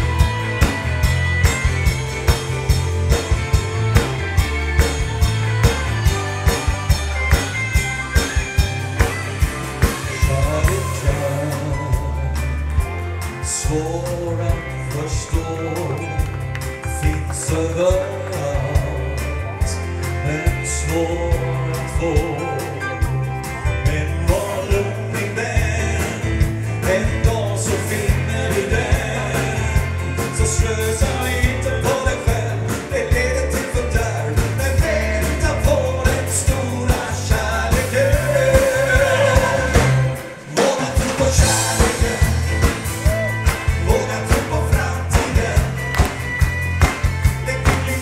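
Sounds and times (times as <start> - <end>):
guitar: 0.0 - 48.0
person singing country gospel: 0.0 - 48.0
steady bass line: 0.0 - 48.0.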